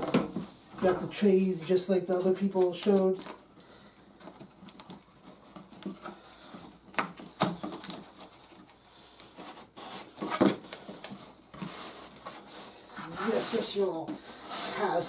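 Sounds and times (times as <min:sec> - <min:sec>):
cardboard rustling: 0:00.0 - 0:15.0.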